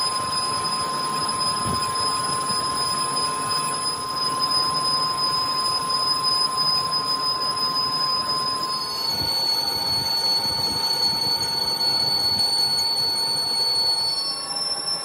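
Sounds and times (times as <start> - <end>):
metal lathe cutting with whine: 0.0 - 15.0.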